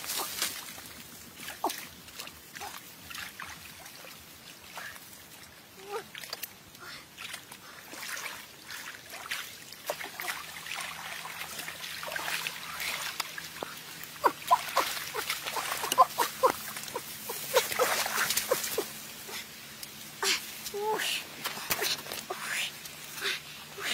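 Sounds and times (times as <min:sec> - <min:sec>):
trickle of running water: 0:00.1 - 0:23.6.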